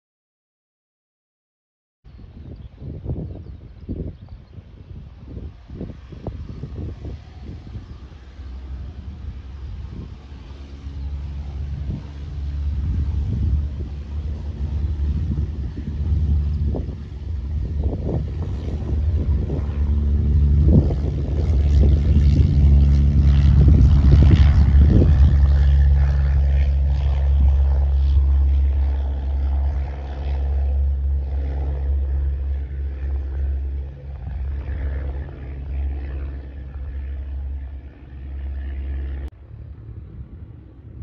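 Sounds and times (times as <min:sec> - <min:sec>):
propeller plane engine droning: 0:02.1 - 0:41.0.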